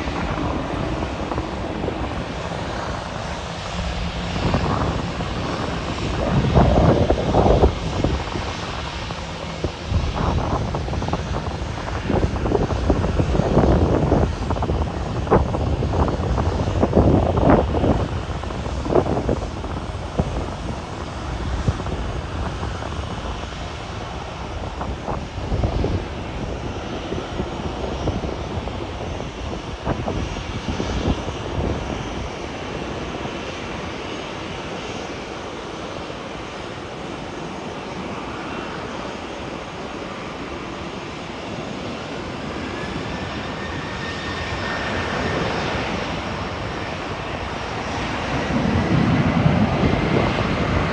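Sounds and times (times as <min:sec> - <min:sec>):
jet engines rumbling: 0:00.0 - 0:50.9.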